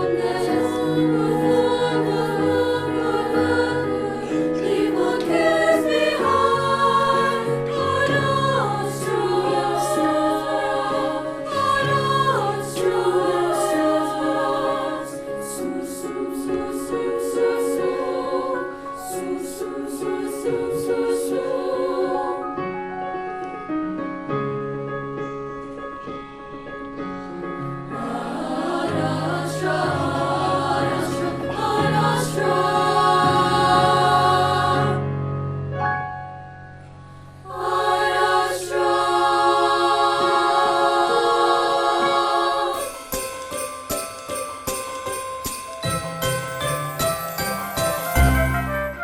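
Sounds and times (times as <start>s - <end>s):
choir singing in harmony: 0.0s - 23.2s, 27.2s - 35.4s, 37.4s - 49.0s.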